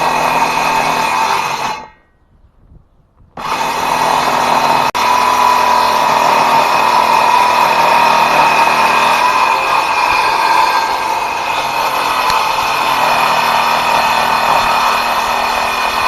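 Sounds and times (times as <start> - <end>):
circular saw whining: 0.0 - 2.1, 3.4 - 16.0.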